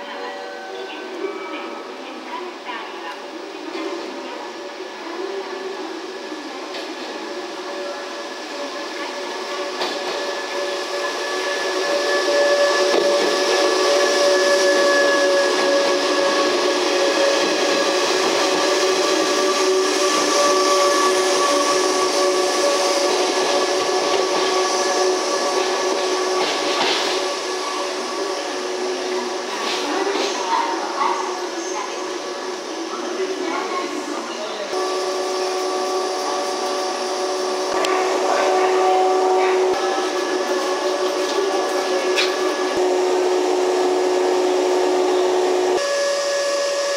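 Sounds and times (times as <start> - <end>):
train passing slowly: 0.0 - 45.8
train motor whine: 5.5 - 31.0, 34.7 - 46.9.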